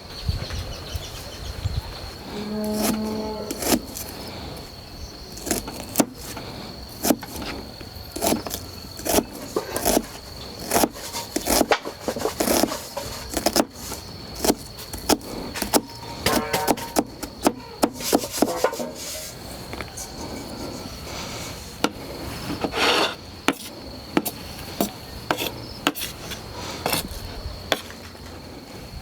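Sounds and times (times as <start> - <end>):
high insect trill: 0.0 - 29.0.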